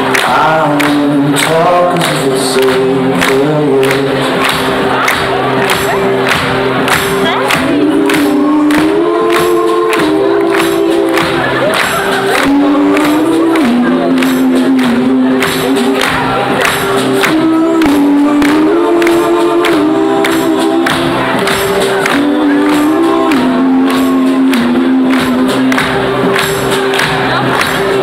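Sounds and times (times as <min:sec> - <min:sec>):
live band music: 0:00.0 - 0:28.0.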